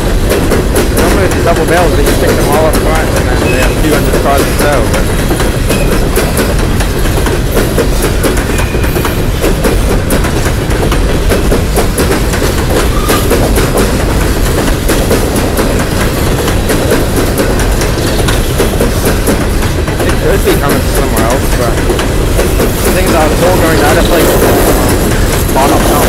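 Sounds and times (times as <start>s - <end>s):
freight train rumbling past: 0.0s - 26.0s
wheels clattering over rail joints: 0.0s - 26.0s.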